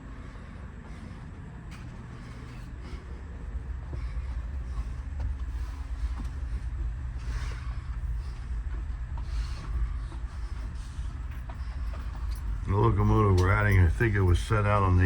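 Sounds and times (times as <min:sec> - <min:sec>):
diesel locomotives idling: 0:00.0 - 0:15.0
faint hum: 0:00.0 - 0:15.0.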